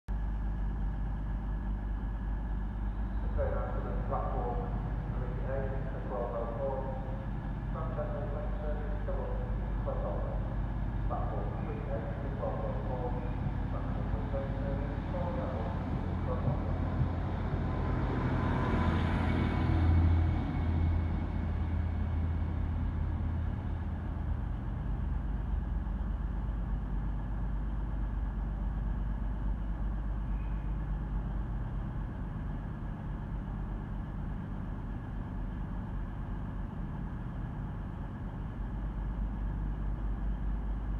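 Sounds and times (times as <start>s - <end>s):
diesel railcar engine pulling away: 0.1s - 40.9s
steady low hum: 0.1s - 40.9s.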